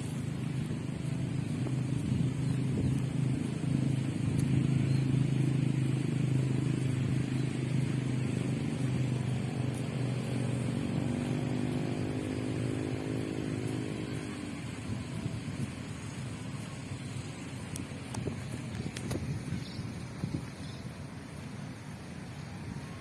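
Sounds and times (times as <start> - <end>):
steady low engine hum: 0.0 - 23.0
vehicle engine passing by: 0.0 - 23.0.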